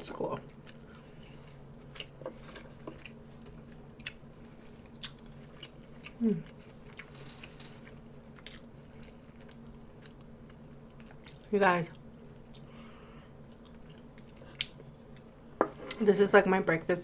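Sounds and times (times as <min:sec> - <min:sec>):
steady low hum: 0:00.0 - 0:17.0
person chewing food: 0:00.5 - 0:11.5, 0:12.1 - 0:15.9.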